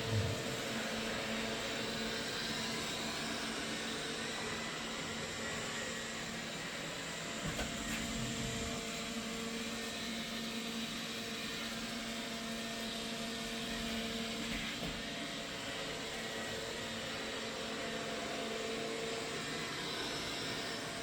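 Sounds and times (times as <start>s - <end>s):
robot vacuum cleaner whirring hum: 0.0s - 21.0s.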